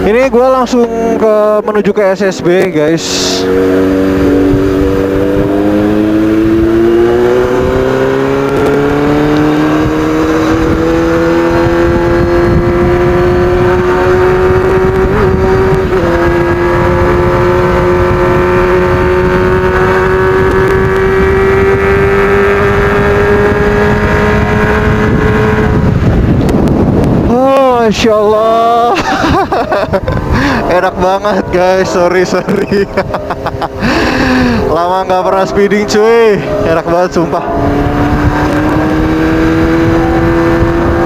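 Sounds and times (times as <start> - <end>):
motorcycle engine accelerating hard: 2.3 - 41.0.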